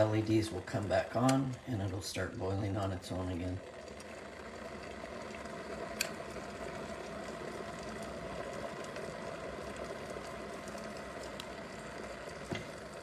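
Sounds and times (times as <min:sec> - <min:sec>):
electric kettle heating water: 0:00.0 - 0:13.0.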